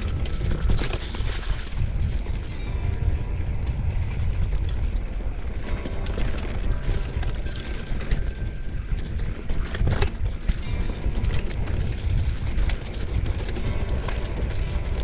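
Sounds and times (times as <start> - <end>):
bike clattering and rattling: 0.0 - 15.0
wind rumbling on microphone: 0.0 - 15.0.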